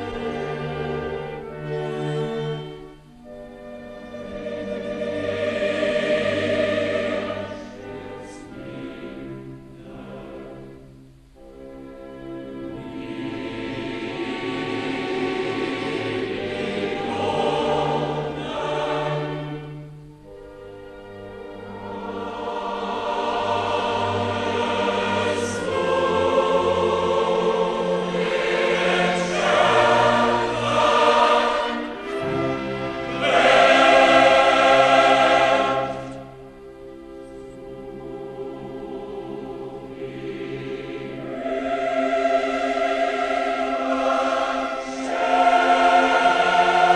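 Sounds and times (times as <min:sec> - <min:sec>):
choir singing: 0:00.0 - 0:11.2, 0:12.2 - 0:46.9.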